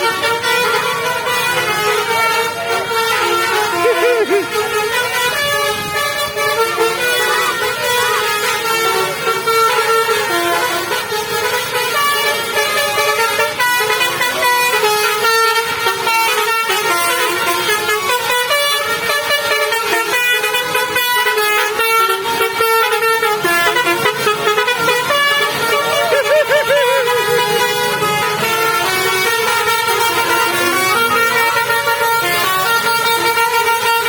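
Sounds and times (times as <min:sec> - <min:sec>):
multi-tone bus air horn melody: 0:00.0 - 0:34.0.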